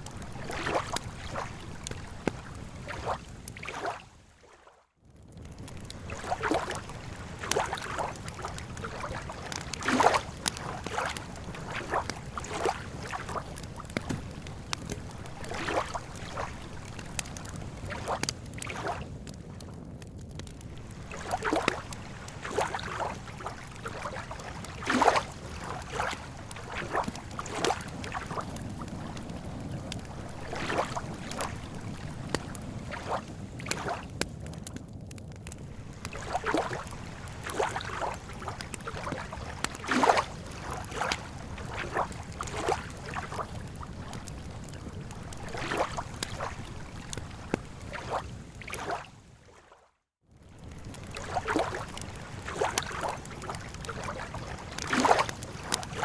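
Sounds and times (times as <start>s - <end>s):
lake water lapping at shore: 0.0s - 4.8s, 5.6s - 19.7s, 20.6s - 34.2s, 35.7s - 56.0s.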